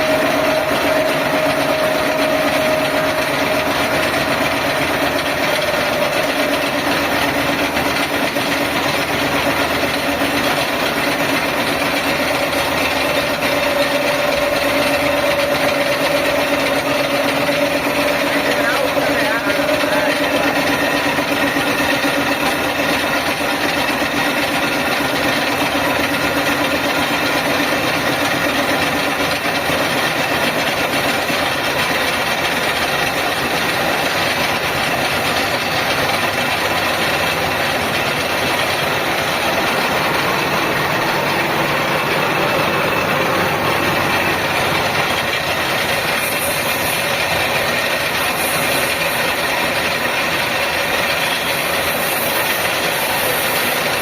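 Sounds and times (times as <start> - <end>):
machine running with whining tones: 0.0 - 54.0.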